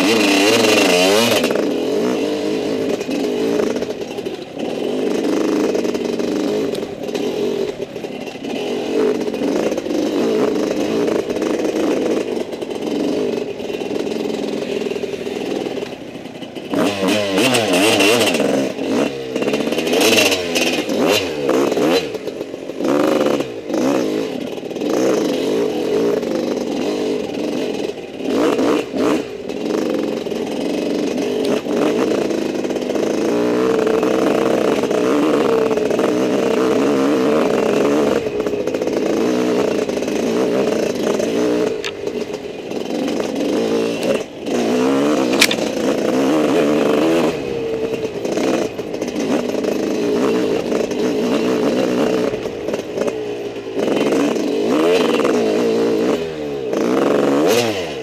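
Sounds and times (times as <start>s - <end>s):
off-road motorcycle engine revving: 0.0s - 58.0s.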